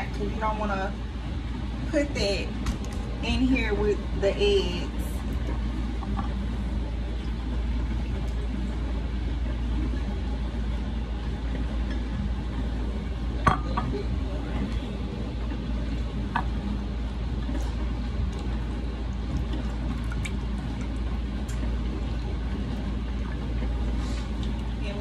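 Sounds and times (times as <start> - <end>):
dishwasher humming: 0.0 - 25.0.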